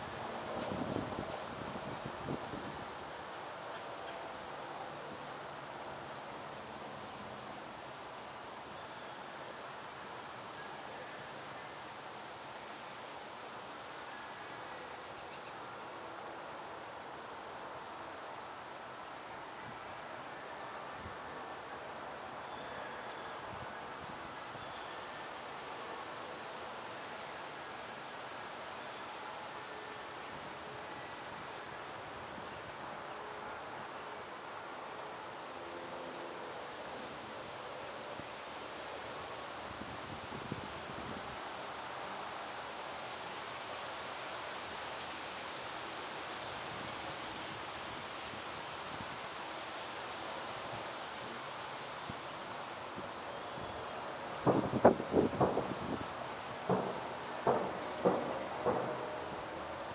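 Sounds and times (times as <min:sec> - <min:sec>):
insect trill: 0:00.0 - 0:59.9
quiet outdoor hiss: 0:00.0 - 0:59.9.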